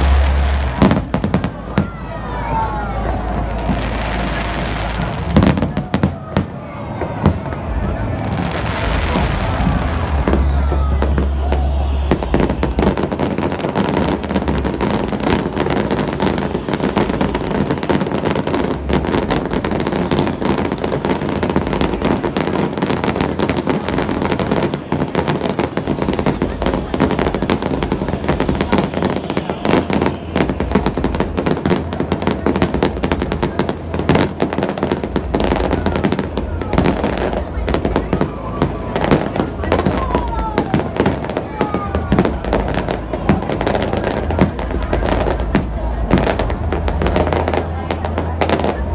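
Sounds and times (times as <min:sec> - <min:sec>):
fireworks bursting and crackling: 0:00.0 - 0:48.9
heavy low rumble: 0:00.0 - 0:48.9.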